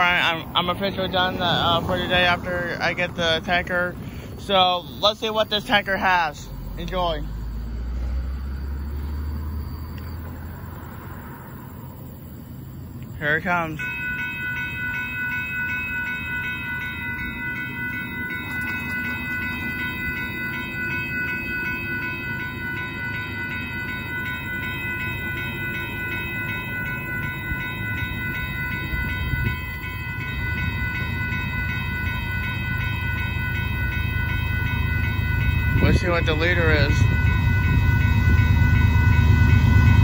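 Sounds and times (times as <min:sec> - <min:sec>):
railroad crossing bells ringing: 0:00.0 - 0:40.0
train rumble: 0:00.0 - 0:40.0.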